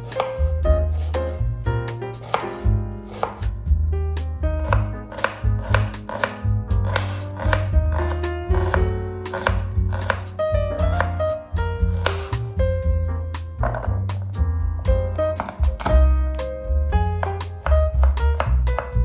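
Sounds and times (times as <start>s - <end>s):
background music with bass: 0.0s - 19.0s
knife chopping on cutting board: 0.1s - 1.4s, 2.2s - 3.7s, 4.6s - 12.5s, 13.6s - 14.2s, 15.1s - 19.0s.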